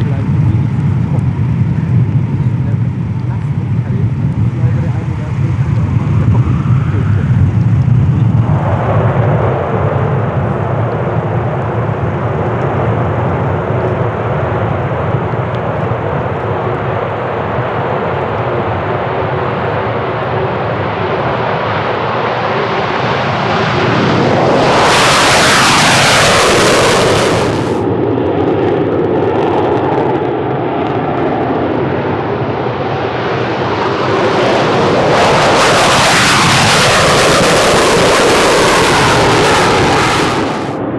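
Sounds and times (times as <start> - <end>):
jet engine noise: 0.0 - 40.9.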